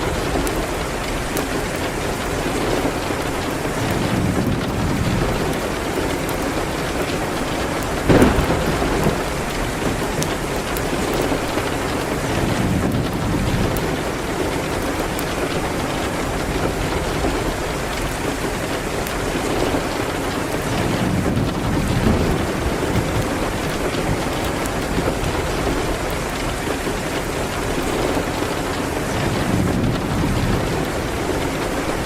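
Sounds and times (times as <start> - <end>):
dense rain: 0.0 - 32.0.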